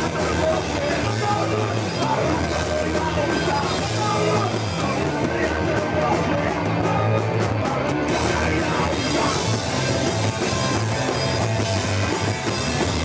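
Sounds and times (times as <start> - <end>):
distorted electric guitar: 0.0 - 13.0
drum kit with cymbals: 0.0 - 13.0.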